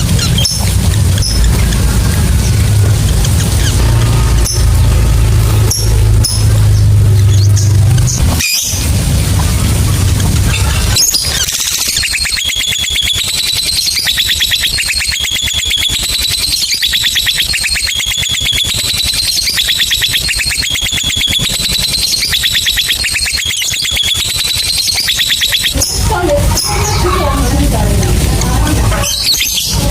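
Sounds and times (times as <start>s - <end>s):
lovebird chattering trill: 0.0s - 29.9s.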